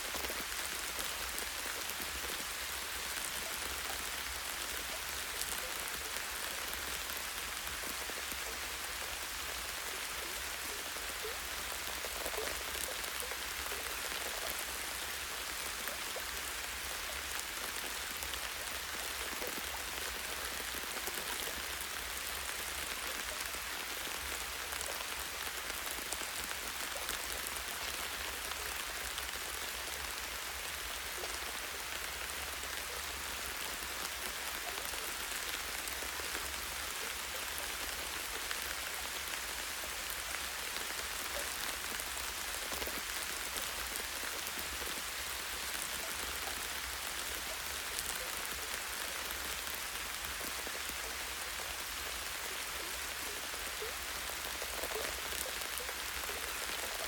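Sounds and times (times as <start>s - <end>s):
light rain on a tree: 0.0s - 57.0s.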